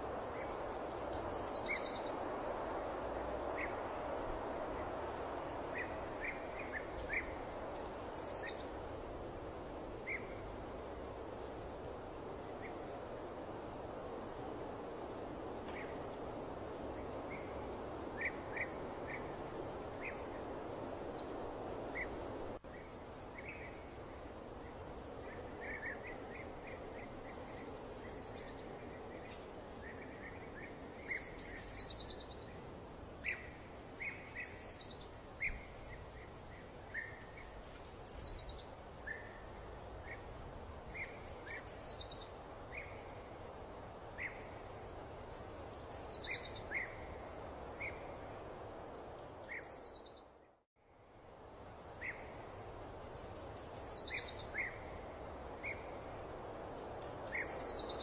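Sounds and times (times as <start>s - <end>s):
soft steady background noise: 0.0s - 58.0s.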